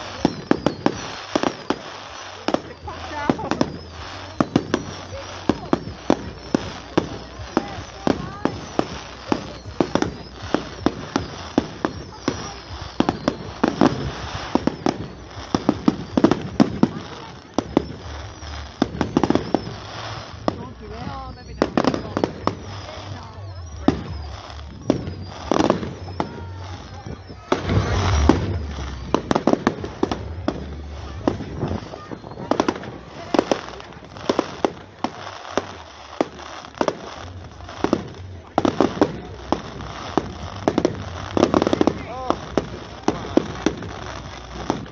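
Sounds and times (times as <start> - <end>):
fireworks bangs: 0.0 - 44.9.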